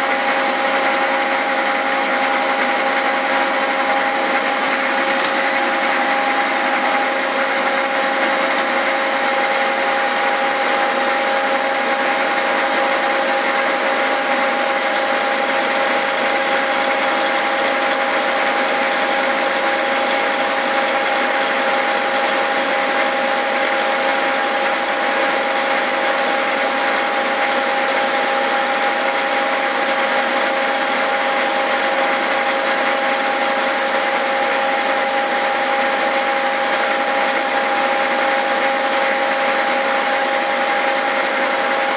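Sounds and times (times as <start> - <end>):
milling machine whine and cutting: 0.0 - 41.9.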